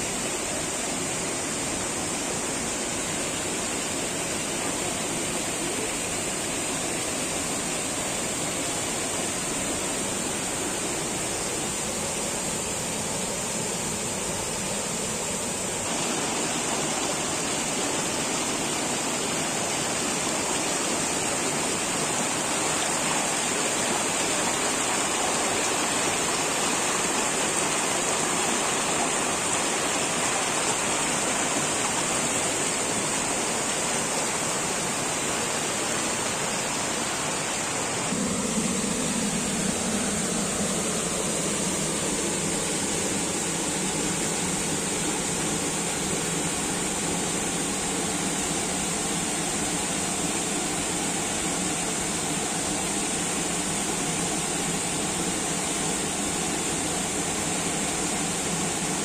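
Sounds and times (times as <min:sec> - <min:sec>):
waterfall rushing into a pool: 0:00.0 - 0:59.0.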